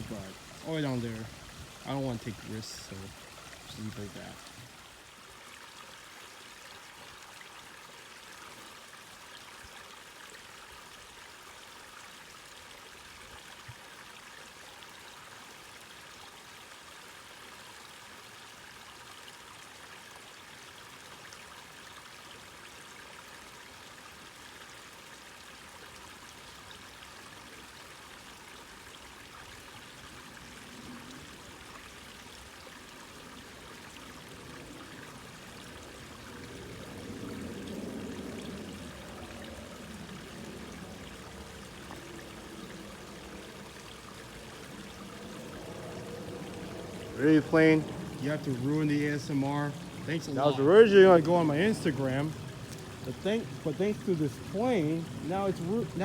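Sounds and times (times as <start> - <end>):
distant waterfall and creek: 0.0 - 56.0.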